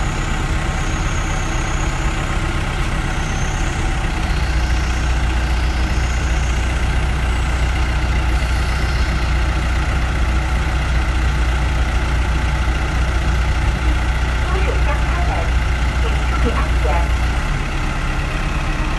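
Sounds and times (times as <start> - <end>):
truck engine idling: 0.0 - 18.9.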